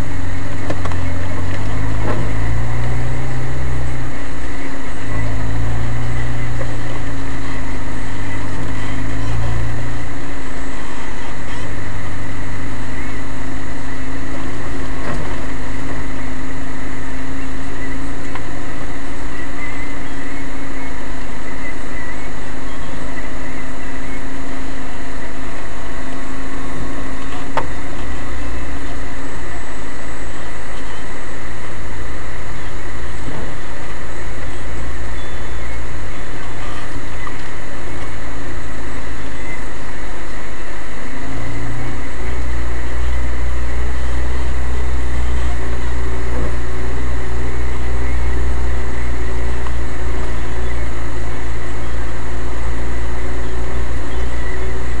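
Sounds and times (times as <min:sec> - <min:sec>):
car engine running at low revs: 0:00.0 - 0:55.0.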